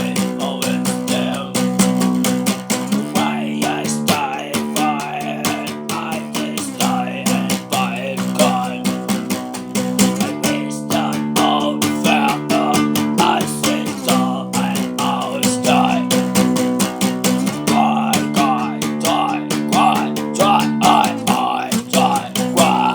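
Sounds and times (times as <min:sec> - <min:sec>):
strummed guitar music: 0:00.0 - 0:22.9.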